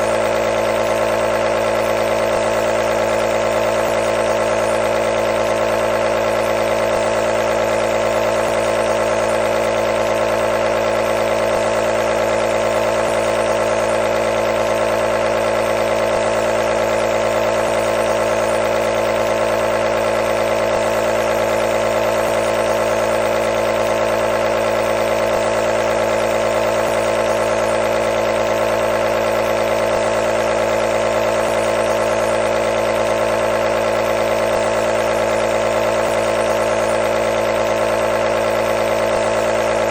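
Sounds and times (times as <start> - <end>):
nebulizer compressor humming: 0.0 - 39.9.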